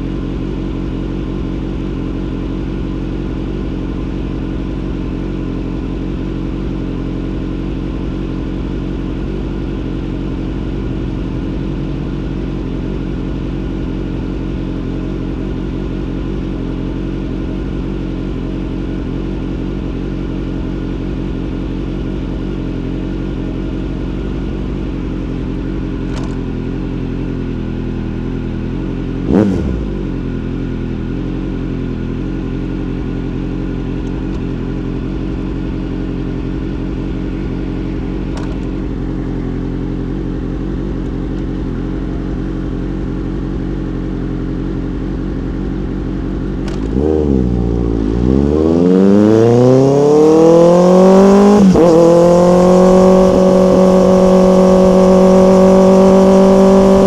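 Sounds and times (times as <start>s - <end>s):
motorcycle engine idling: 0.0s - 48.6s.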